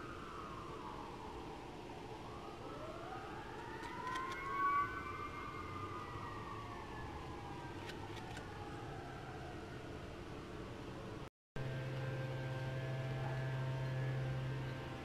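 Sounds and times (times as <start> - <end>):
faint siren wailing: 0.0 - 15.0.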